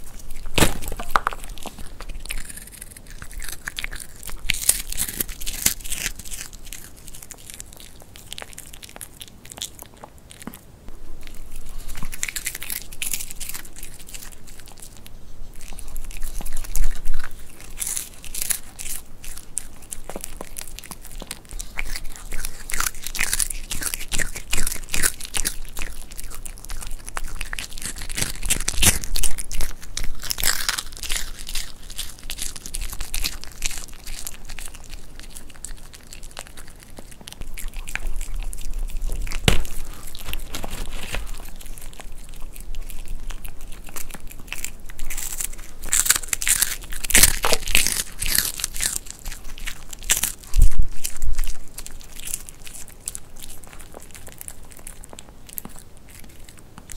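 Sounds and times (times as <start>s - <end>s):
dog crunching chips: 0.0s - 56.9s.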